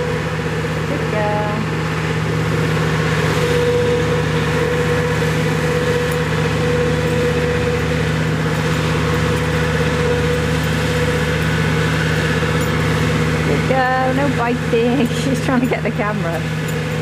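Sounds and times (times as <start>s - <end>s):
topper whine: 0.0s - 17.0s
tractor engine droning: 0.0s - 17.0s.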